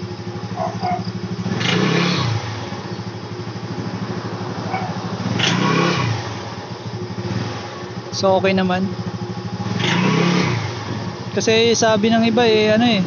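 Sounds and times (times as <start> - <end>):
scooter engine idling and revving: 0.0 - 13.0.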